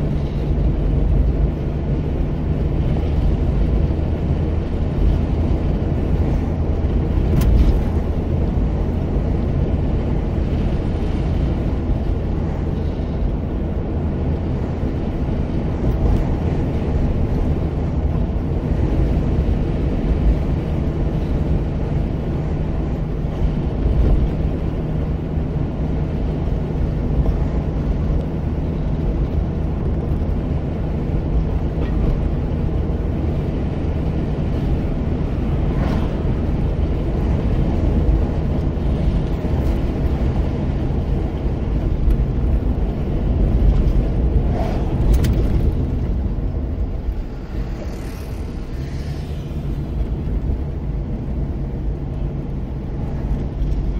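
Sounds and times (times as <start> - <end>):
car interior road rumble: 0.0 - 53.9.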